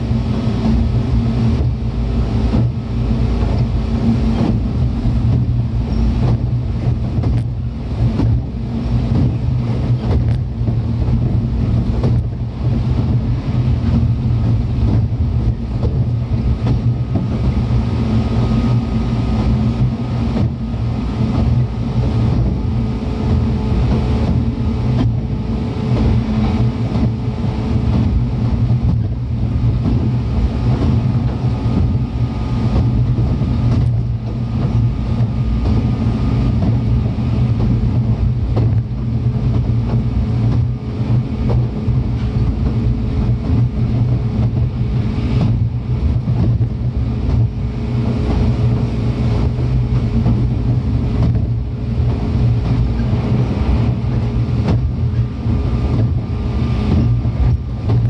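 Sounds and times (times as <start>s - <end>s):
low hum: 0.0s - 58.0s
train wheels rumbling on rail: 0.0s - 58.0s.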